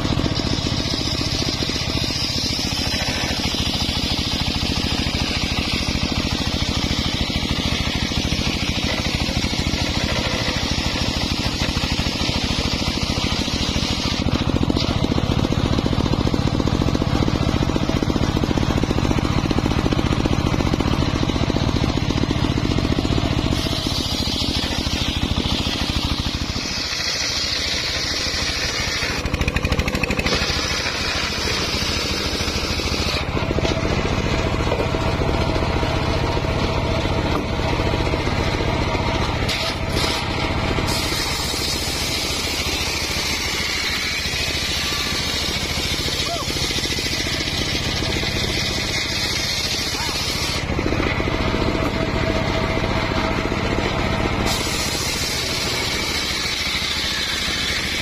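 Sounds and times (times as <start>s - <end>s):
engine drone: 0.0s - 58.0s
saw blade cutting logs: 0.0s - 58.0s.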